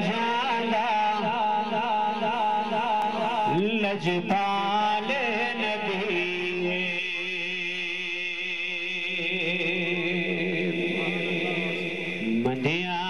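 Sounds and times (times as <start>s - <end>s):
man singing devotional recitation: 0.0s - 13.0s.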